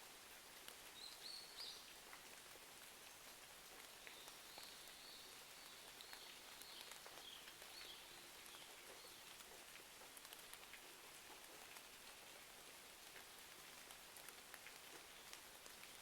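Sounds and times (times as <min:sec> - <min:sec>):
faint rain: 0:00.0 - 0:16.0.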